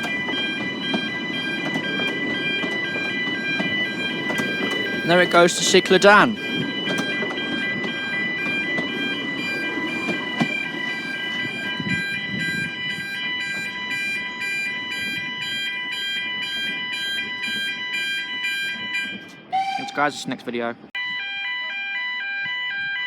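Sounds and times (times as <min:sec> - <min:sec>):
level crossing alarm tones: 0:00.0 - 0:23.0.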